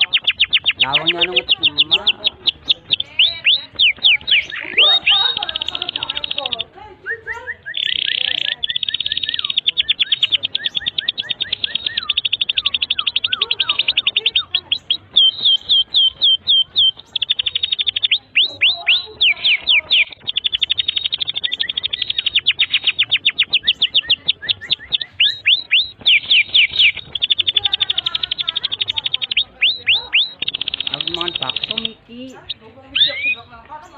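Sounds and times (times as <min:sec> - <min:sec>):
canary singing fast trills: 0:00.0 - 0:33.9.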